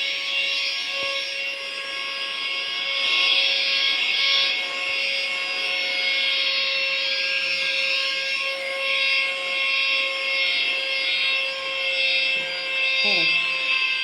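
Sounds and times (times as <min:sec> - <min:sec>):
handheld vacuum cleaner running: 0:00.0 - 0:14.0.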